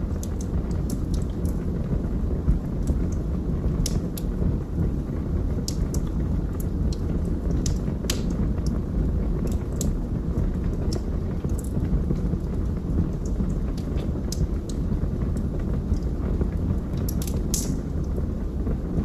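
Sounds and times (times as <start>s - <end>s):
wood fire burning and crackling: 0.0s - 19.0s.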